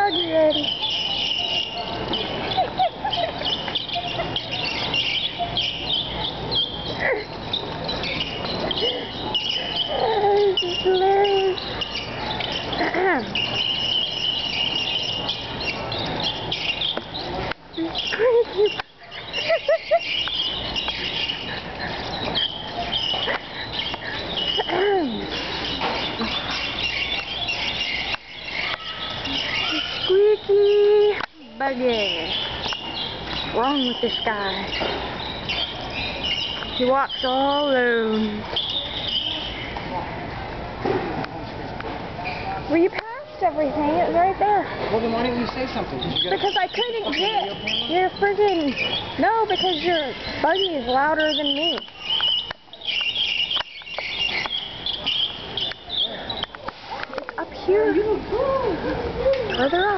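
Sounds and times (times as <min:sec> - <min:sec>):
shopping cart squeaking: 0:00.0 - 0:40.0, 0:42.1 - 0:57.0, 0:59.5 - 0:59.9.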